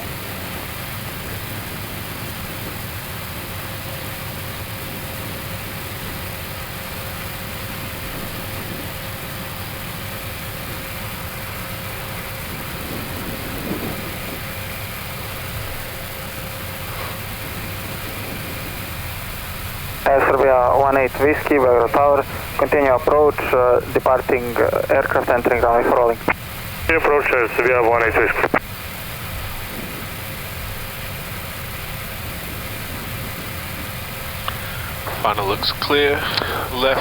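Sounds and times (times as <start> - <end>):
faint steady hum: 0.0 - 37.0
idling jet engines rumble: 0.0 - 37.0
air-conditioning hiss: 6.5 - 37.0.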